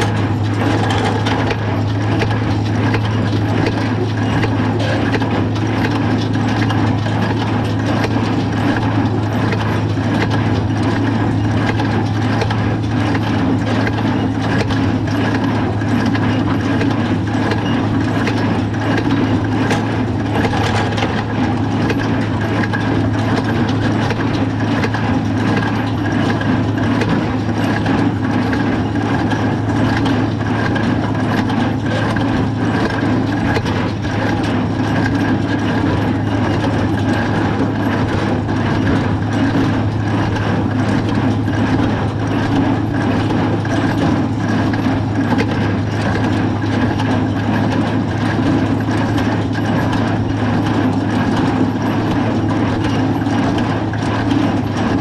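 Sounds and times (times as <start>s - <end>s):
baler mechanical knocks: 0.0s - 55.0s
tractor engine drone: 0.0s - 55.0s.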